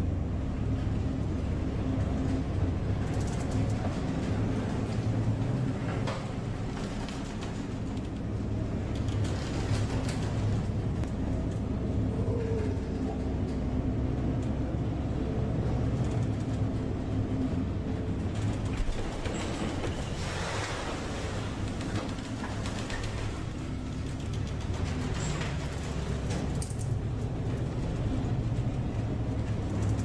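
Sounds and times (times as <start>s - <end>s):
ship engines droning: 0.0s - 30.0s.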